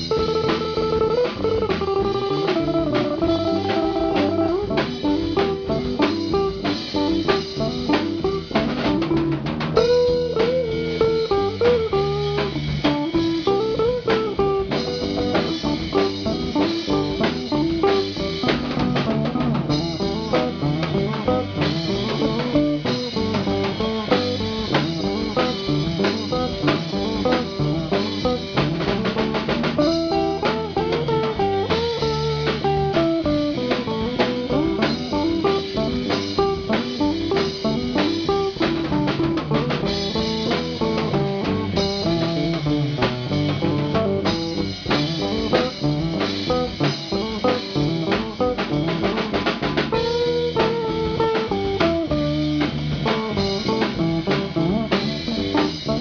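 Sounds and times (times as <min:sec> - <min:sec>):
bass guitar: 0:00.0 - 0:56.0
drum kit steady beat: 0:00.0 - 0:56.0
electric guitar melody: 0:00.0 - 0:56.0.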